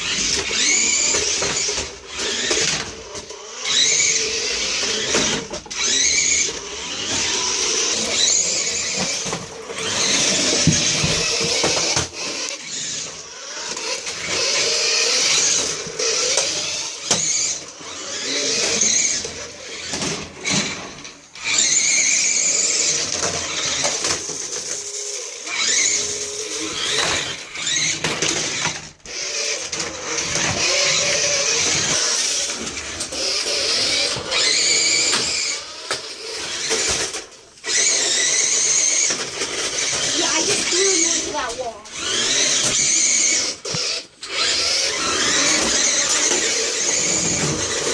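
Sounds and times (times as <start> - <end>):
toy cars electric motors whining: 0.0 - 47.9.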